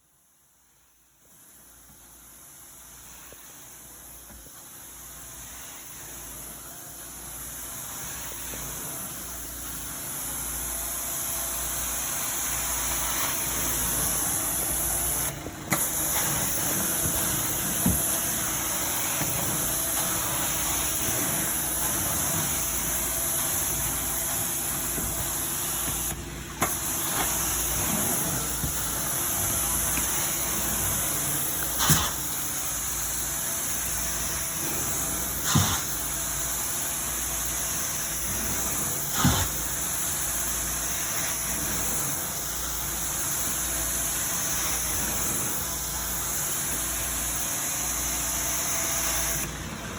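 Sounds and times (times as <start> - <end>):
vacuum cleaner airflow hiss: 0.8 - 49.9.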